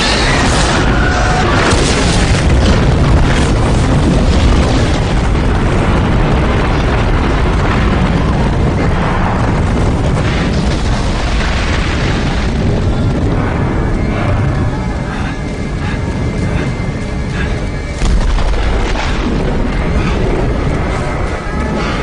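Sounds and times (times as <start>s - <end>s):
burning wreckage: 0.0s - 22.0s
rumble of explosions: 0.0s - 22.0s.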